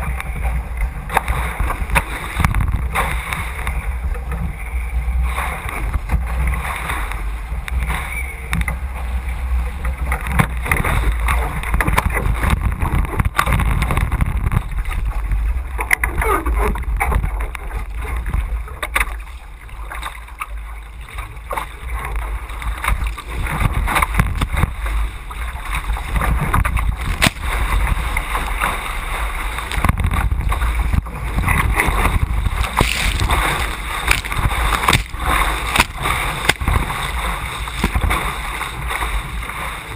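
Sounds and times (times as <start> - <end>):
wind buffeting microphone: 0.0 - 18.8, 21.0 - 39.9
water rushing past boat hull: 0.0 - 39.9.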